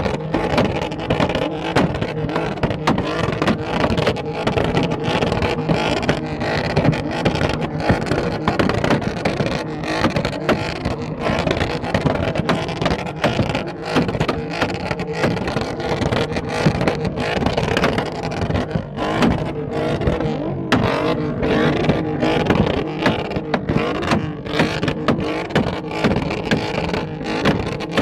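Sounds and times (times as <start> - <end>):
car engine revving: 0.0 - 28.0
exhaust pops and bangs: 0.0 - 28.0.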